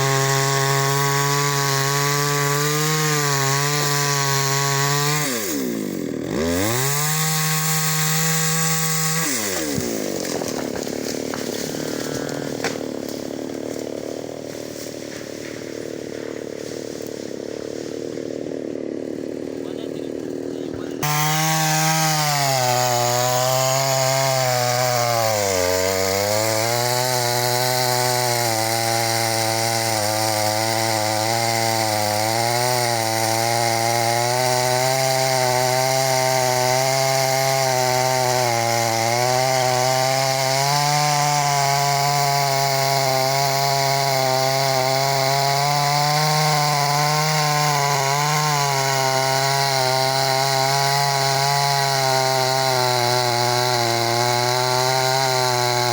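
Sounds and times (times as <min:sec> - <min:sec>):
chainsaw sawing through wood: 0:00.0 - 0:55.9.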